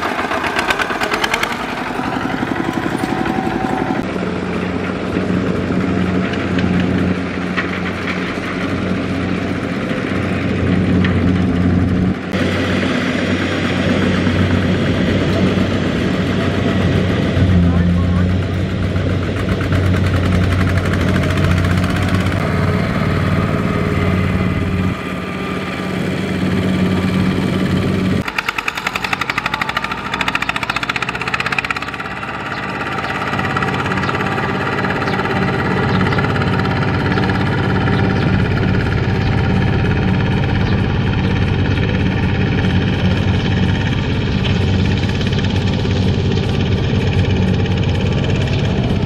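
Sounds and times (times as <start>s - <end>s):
diesel tractor engine running: 0.0s - 49.0s.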